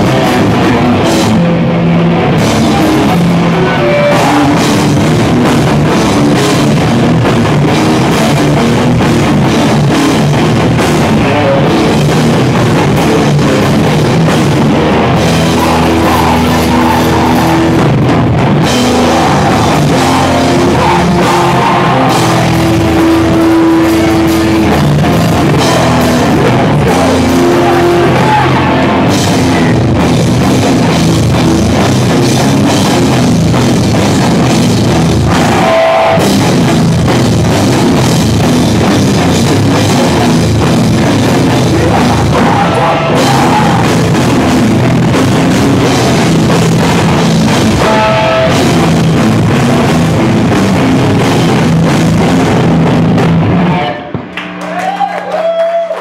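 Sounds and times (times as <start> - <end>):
punk band playing live: 0.0 - 56.0.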